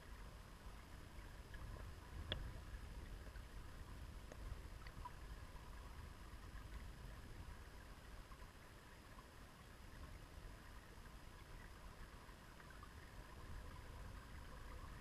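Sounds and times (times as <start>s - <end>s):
river flowing underwater rumble: 0.0s - 15.0s
soft underwater ticks: 0.0s - 15.0s.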